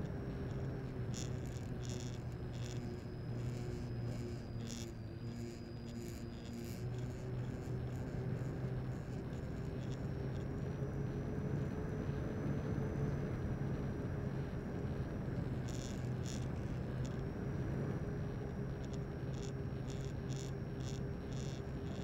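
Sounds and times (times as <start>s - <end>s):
high electric motor whine: 0.0s - 22.0s.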